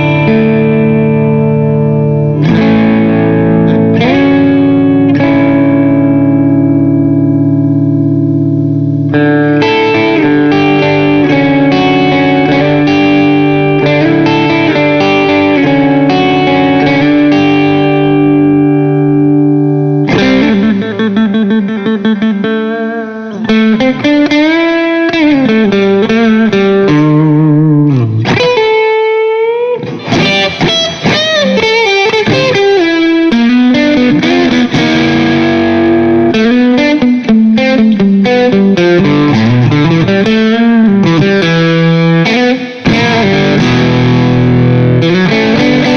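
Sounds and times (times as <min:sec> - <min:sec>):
distorted electric guitar: 0:00.0 - 0:45.9.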